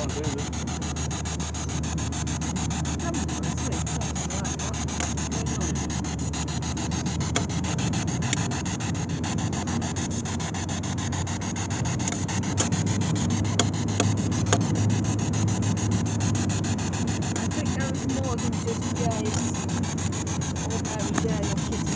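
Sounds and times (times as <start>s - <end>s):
radio static sweeping: 0.0s - 21.9s
sharp clicks: 0.2s - 21.9s.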